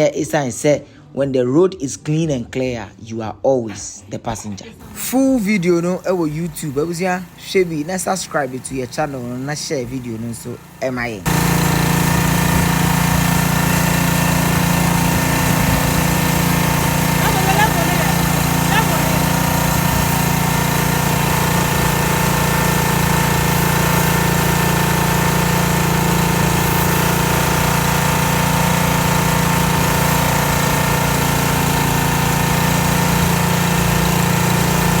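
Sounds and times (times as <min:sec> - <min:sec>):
pressure washer running: 0:04.8 - 0:35.0.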